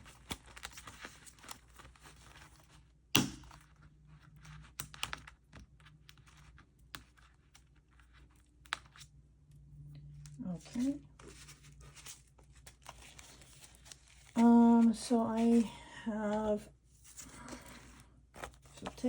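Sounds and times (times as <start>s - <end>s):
envelopes rustling and clicking: 0.0s - 19.0s.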